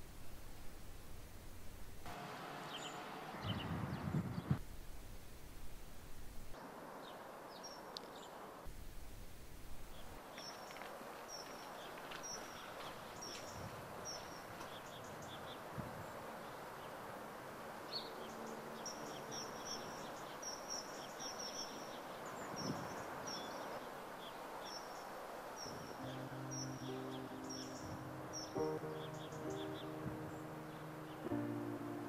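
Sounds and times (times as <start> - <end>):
steady background hiss: 0.0 - 32.0
small birds chirping: 1.8 - 4.6, 6.5 - 8.5, 9.7 - 32.0.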